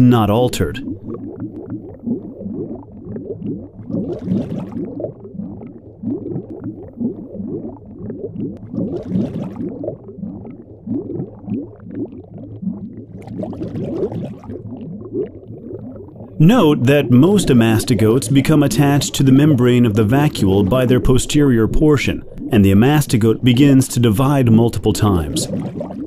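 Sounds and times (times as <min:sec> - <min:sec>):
bubbling gurgling liquid: 0:00.0 - 0:26.0.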